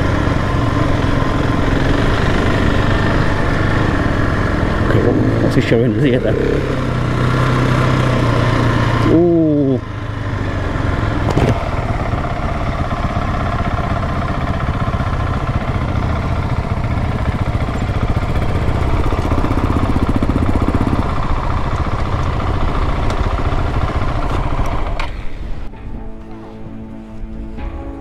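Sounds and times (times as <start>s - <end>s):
motorcycle engine running: 0.0s - 25.7s.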